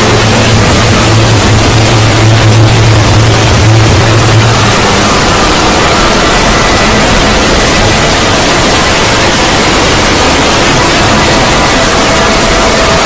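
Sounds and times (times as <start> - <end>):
faint steady tones: 0.0 - 13.0
rushing static-like noise: 0.0 - 13.0.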